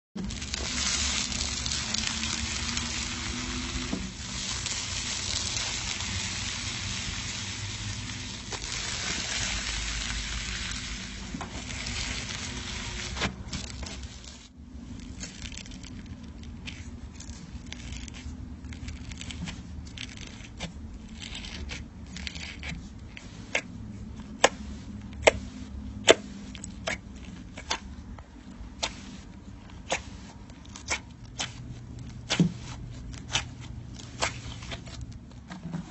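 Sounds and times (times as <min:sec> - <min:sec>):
crunchy slime crackling: 0:00.2 - 0:23.6, 0:26.0 - 0:35.9.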